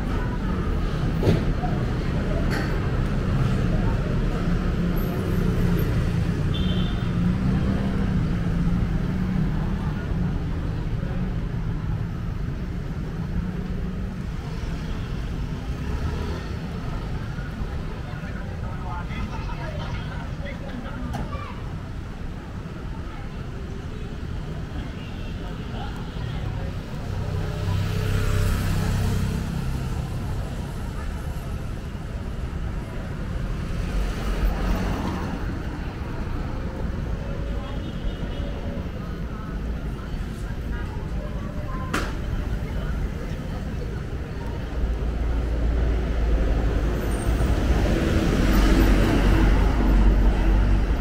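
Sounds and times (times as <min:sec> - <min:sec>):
street traffic rumble: 0:00.0 - 0:51.0.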